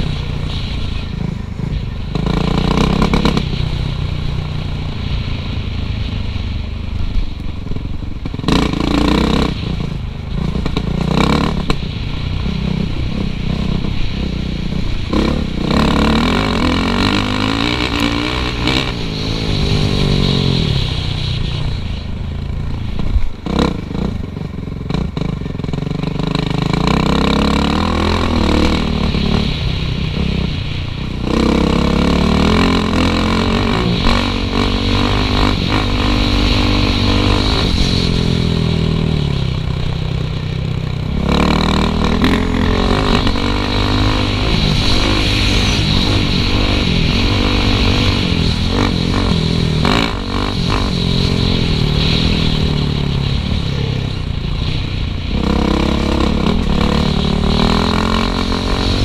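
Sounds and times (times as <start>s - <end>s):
dirt bike engine revving: 0.0s - 6.5s, 8.2s - 59.0s.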